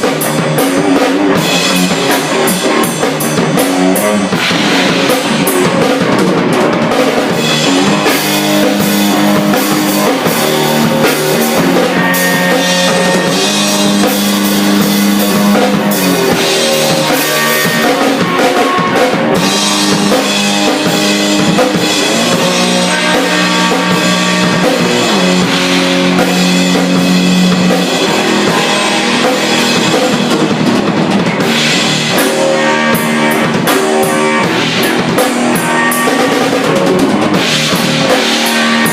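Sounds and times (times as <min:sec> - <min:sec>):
distorted electric guitar: 0:00.0 - 0:38.9
rock drumming with cymbals: 0:00.0 - 0:38.9.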